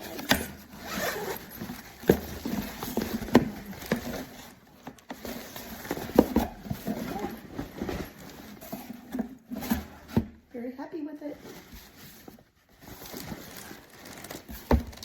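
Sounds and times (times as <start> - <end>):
fabric bag rustling: 0.0 - 10.1, 11.4 - 15.0.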